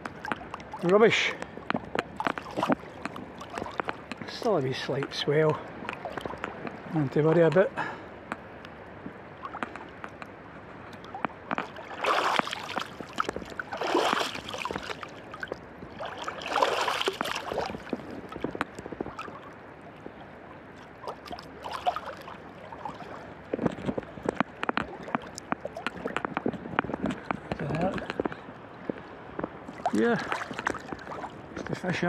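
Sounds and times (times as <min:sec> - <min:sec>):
water clicks and plops: 0:00.0 - 0:07.7, 0:08.3 - 0:20.2, 0:20.8 - 0:32.0
water splashing: 0:00.0 - 0:08.0, 0:09.3 - 0:32.0
water lapping and sloshing: 0:00.0 - 0:32.0.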